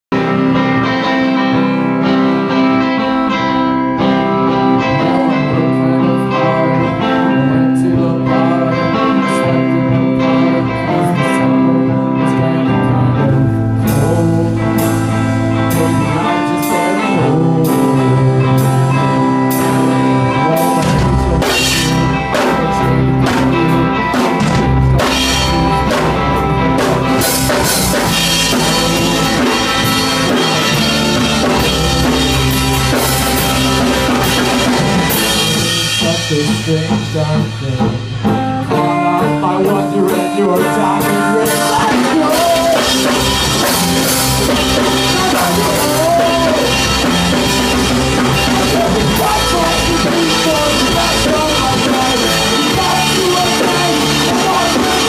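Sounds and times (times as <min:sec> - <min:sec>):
electric guitar: 0:00.0 - 0:55.0
drum kit: 0:00.1 - 0:55.0
deep bass: 0:09.8 - 0:55.0.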